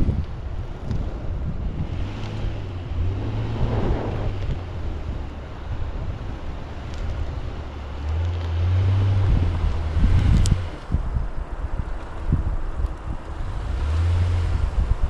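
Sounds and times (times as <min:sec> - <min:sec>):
suv engine running at low revs: 0:00.0 - 0:15.0
wind buffeting microphone: 0:00.0 - 0:15.0.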